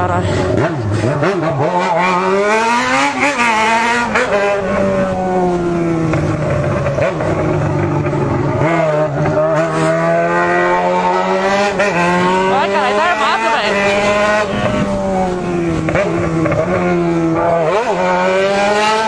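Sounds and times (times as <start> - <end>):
vehicle engine under throttle: 0.0 - 19.0.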